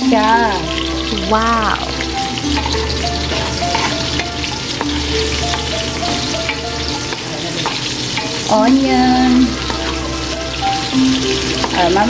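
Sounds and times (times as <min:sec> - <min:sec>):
faint melody: 0:00.0 - 0:12.0
food sizzling in hot oil: 0:00.0 - 0:12.0
spatula tapping pan: 0:00.0 - 0:12.0
wooden spatula scraping wok: 0:00.1 - 0:12.0.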